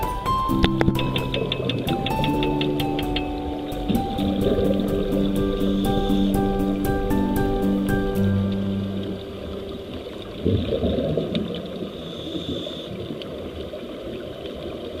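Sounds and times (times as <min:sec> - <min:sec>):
underwater rushing and bubbling: 0:00.0 - 0:15.0.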